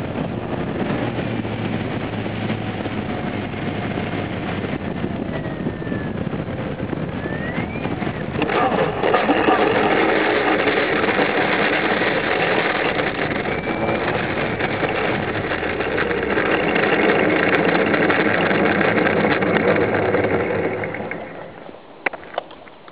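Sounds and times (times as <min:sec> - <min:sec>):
model airplane engine running: 0:00.0 - 0:21.8
wind rushing noise: 0:00.0 - 0:22.0.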